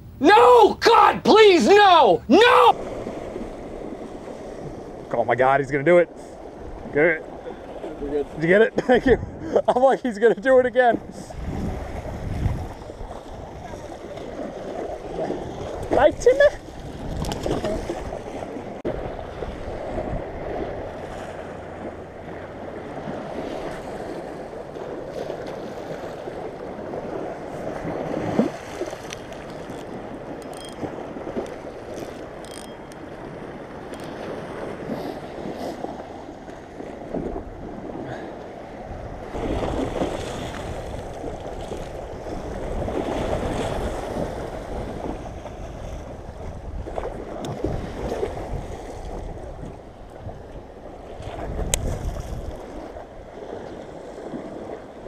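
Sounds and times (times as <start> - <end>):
waves slapping against seawall: 5.9 - 55.0
wind gusting on microphone: 6.3 - 9.7, 11.0 - 22.0, 22.8 - 55.0.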